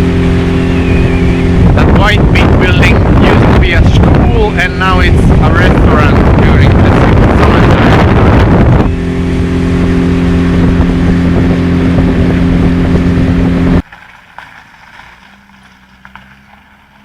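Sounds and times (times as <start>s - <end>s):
rushing wind and water: 0.0s - 13.9s
motorboat engine running: 0.0s - 17.0s.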